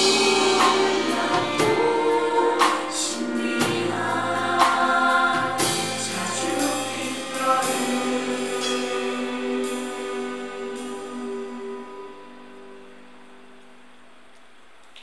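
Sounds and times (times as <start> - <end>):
cymbal strikes: 0.0 - 12.3
live band playing: 0.0 - 12.3
cast singing in chorus: 0.0 - 12.8.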